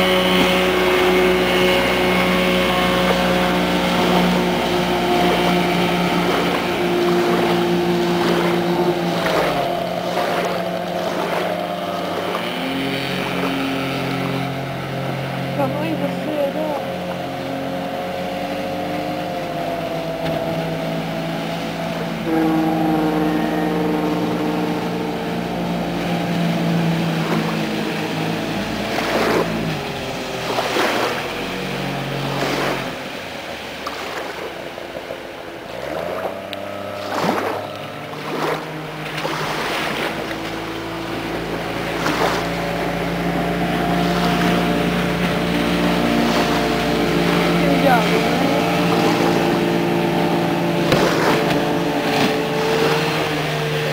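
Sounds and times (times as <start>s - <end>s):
motorboat engines passing: 0.0s - 53.9s
rushing water or wind: 0.0s - 53.9s.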